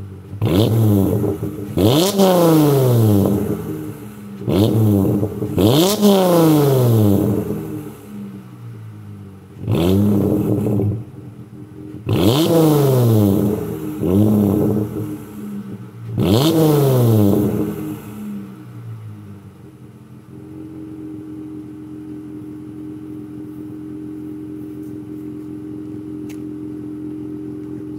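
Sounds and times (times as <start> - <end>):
car engine idling: 0.0 - 27.9
car engine revving: 0.0 - 27.9.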